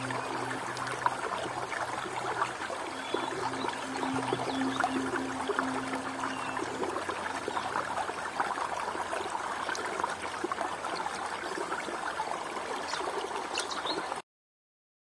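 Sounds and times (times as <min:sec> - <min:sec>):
stream water running over stones: 0:00.0 - 0:14.2.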